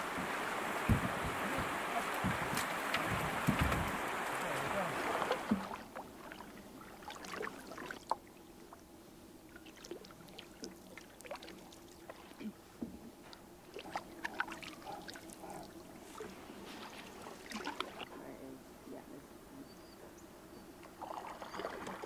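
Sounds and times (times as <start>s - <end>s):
paddle splashes and drips: 0.0s - 8.9s, 9.5s - 12.5s, 13.2s - 18.1s, 20.8s - 22.0s.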